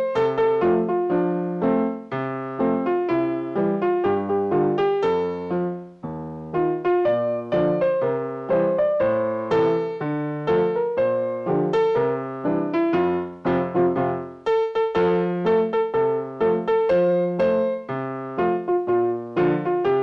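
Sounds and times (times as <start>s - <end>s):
piano playing hymn chords: 0.0s - 20.0s.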